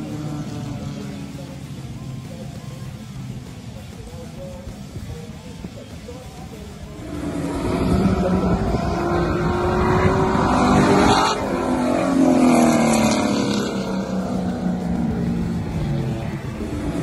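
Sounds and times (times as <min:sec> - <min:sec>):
race car engines passing at speed: 0:00.0 - 0:17.0.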